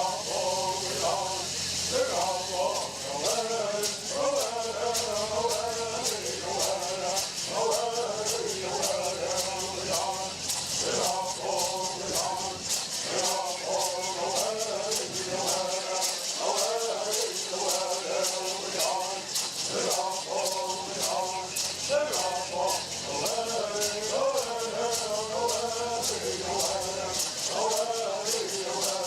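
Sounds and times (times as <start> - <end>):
gourd rattles shaking: 0.0 - 29.0
men singing together: 0.0 - 29.0.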